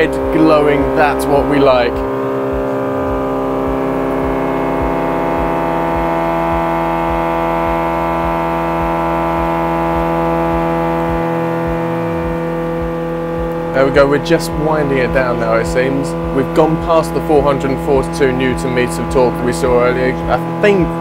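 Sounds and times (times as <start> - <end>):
engine running at high speed: 0.0 - 21.0.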